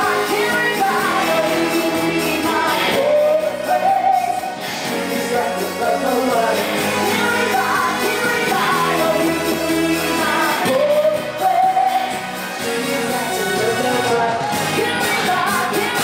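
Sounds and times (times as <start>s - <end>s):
live band with drums and guitar: 0.0s - 16.0s
woman singing into a microphone: 0.0s - 16.0s.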